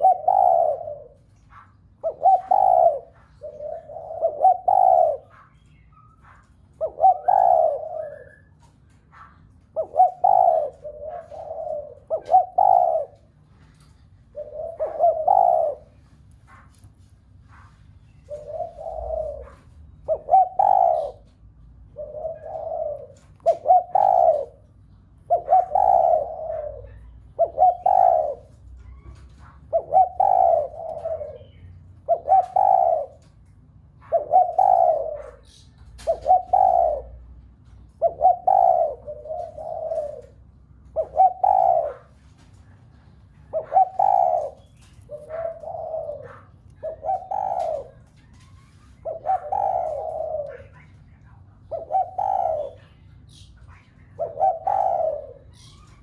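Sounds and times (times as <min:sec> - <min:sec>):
dove cooing: 0:00.0 - 0:16.8, 0:17.5 - 0:56.0.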